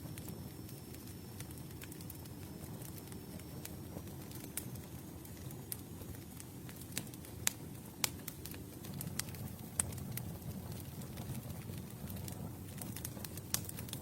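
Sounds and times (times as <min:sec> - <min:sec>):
fire crackles and pops: 0:00.0 - 0:14.0
low rumble of campfire: 0:00.0 - 0:14.0.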